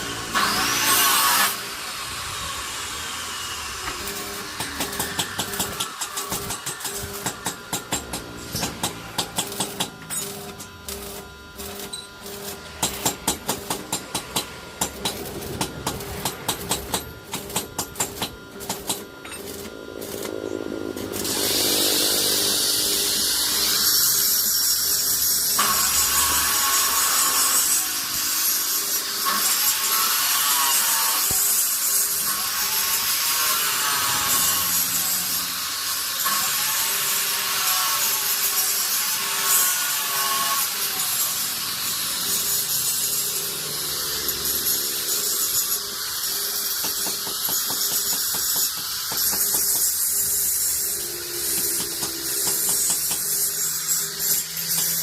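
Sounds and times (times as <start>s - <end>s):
angle grinder cutting steel: 0.0s - 55.0s.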